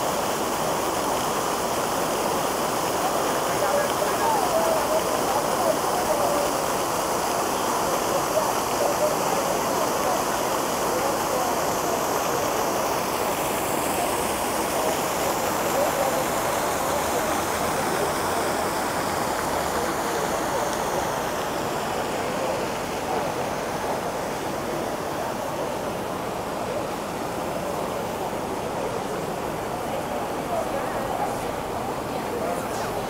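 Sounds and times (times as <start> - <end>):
fountain water splashing: 0.0 - 33.0
people talking: 0.0 - 33.0.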